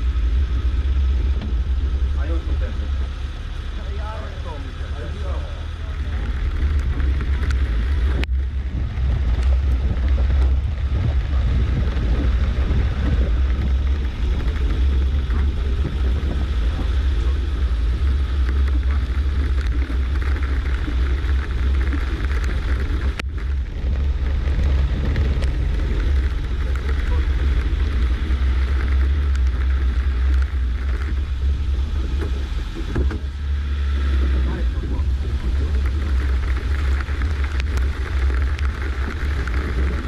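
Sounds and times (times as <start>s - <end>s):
off-road vehicle engine rumble: 0.0s - 40.0s.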